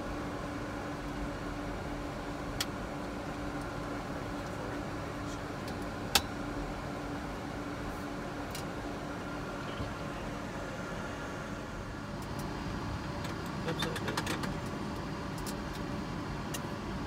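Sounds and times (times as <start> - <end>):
engines and air conditioning hum: 0.0 - 17.0.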